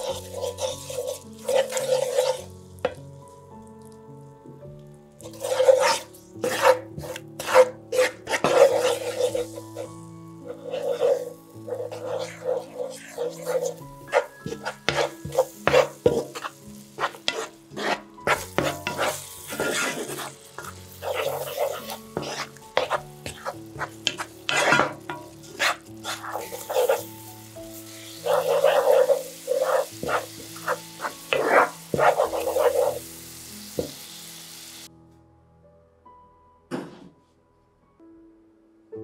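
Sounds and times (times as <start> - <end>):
spatula scraping a pan: 0.0 - 3.0, 5.2 - 34.0
sauce sizzling: 0.0 - 34.9.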